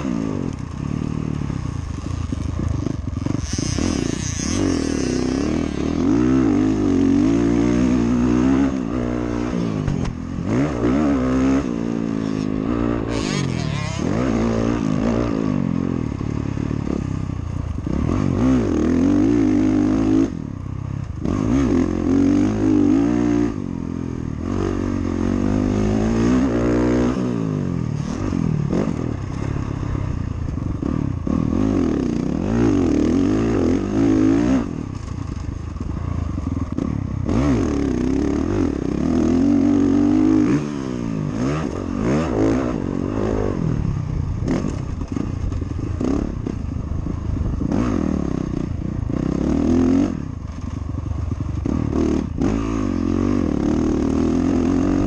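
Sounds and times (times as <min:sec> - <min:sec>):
dirt bike engine revving: 0:00.0 - 0:17.1, 0:17.7 - 0:20.5, 0:21.2 - 0:55.0.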